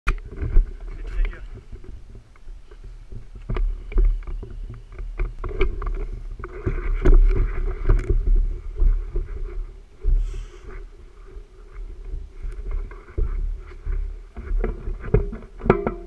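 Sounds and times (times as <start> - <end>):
footsteps: 0.2 - 16.0.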